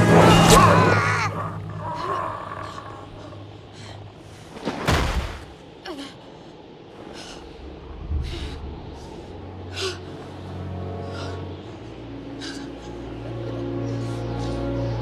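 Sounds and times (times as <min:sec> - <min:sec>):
low steady drone: 0:00.0 - 0:04.5, 0:05.6 - 0:15.0.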